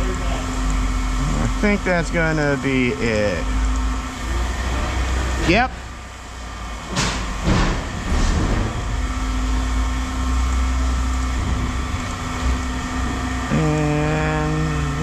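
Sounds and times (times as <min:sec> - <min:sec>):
heavy vehicle engine rumbling: 0:00.0 - 0:15.0
steady hum: 0:00.0 - 0:15.0.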